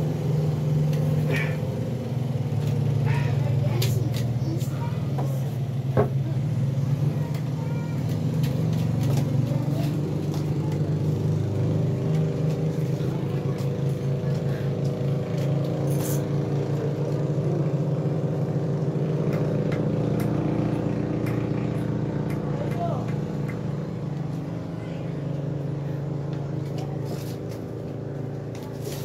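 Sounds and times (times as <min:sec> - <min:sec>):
low motor drone: 0:00.0 - 0:29.0.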